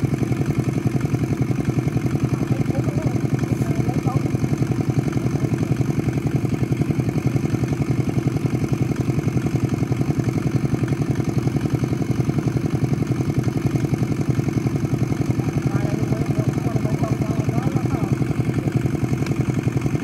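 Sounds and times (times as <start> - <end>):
boat engine throbbing: 0.0 - 20.0.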